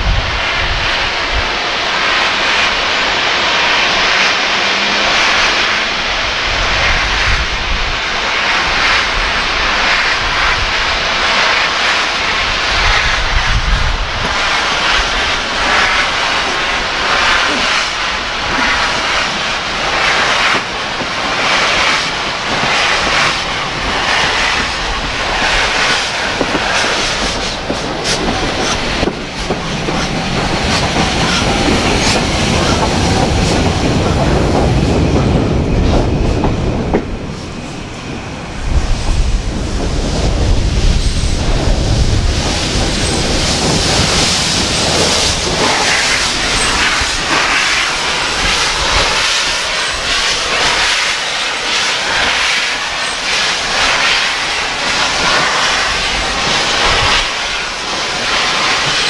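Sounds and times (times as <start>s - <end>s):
hiss of steam: 0.0s - 59.0s
steam locomotive chuffing: 0.0s - 59.0s.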